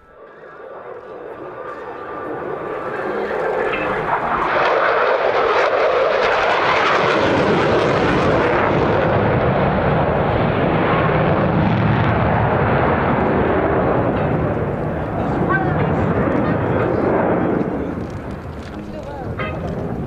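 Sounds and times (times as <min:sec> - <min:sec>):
fighter jet passing: 0:00.0 - 0:20.0.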